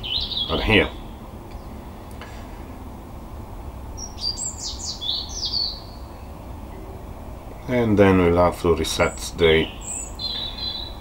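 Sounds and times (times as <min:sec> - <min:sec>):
songbird chirping: 0:00.0 - 0:02.4, 0:03.2 - 0:11.0.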